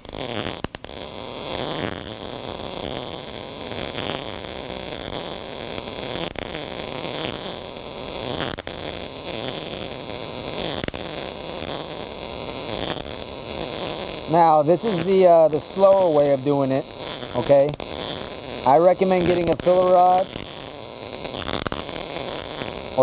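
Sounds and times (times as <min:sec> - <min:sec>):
sharp welding pops: 0:00.0 - 0:23.0
welding arc buzzing: 0:00.0 - 0:23.0.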